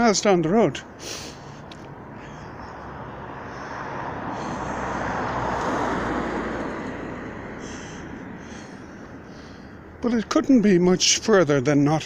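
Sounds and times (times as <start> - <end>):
road vehicle passing by: 0.7 - 12.0.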